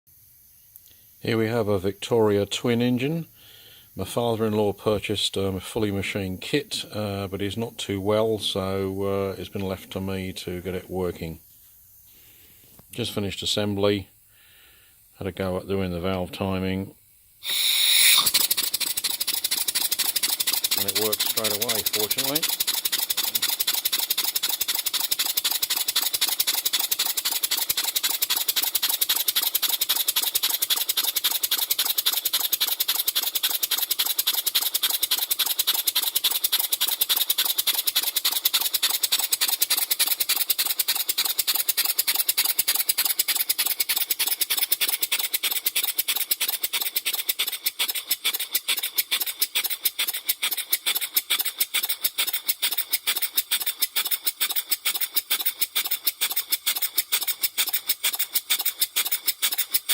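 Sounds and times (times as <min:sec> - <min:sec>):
model engine hissing exhaust beats: 0:00.2 - 0:59.9.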